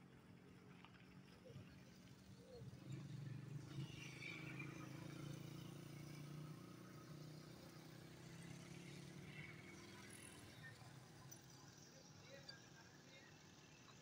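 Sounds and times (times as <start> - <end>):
faint low engine hum: 0.0 - 14.0.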